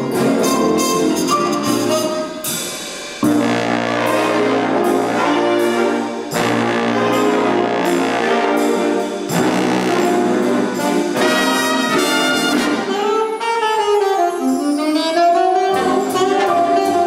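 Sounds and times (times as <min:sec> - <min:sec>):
big band swing music: 0:00.0 - 0:17.0.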